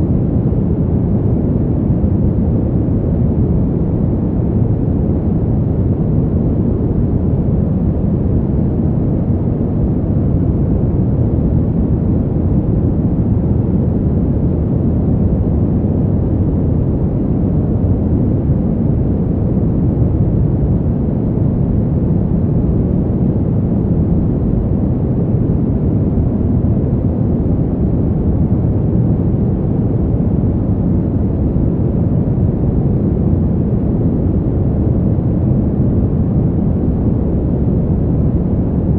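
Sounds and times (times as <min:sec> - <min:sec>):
deep wind rush: 0:00.0 - 0:38.9.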